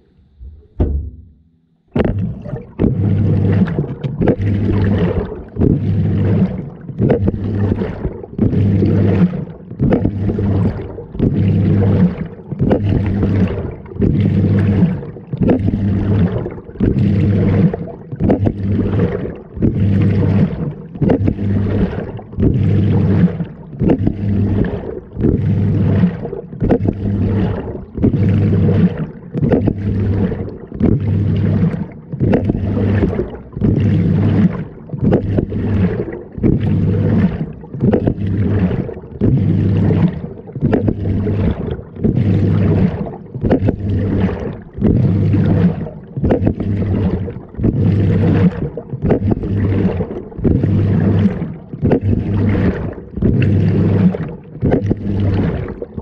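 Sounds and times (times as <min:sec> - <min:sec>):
low motor hum: 0:00.0 - 0:56.0
water sloshing in washing machine: 0:00.0 - 0:56.0.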